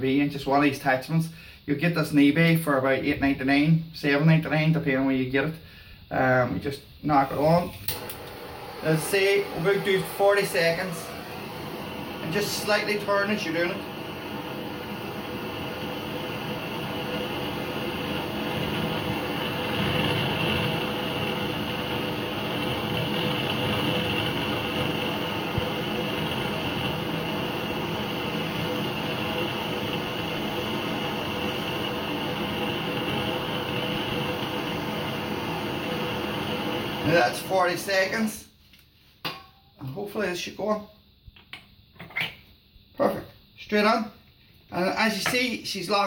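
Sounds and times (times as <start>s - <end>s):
gas torch hissing: 0.2s - 38.5s, 44.7s - 46.0s.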